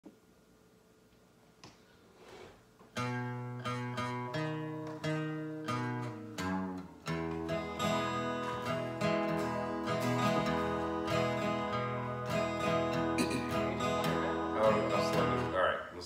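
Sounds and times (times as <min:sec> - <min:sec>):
acoustic guitars strumming country rhythm: 0:02.9 - 0:15.9.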